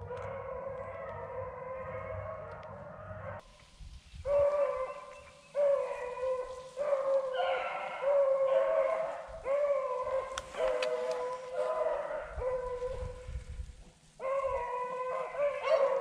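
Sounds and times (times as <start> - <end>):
hounds baying: 0.0 - 3.4, 4.3 - 13.2, 14.2 - 16.0.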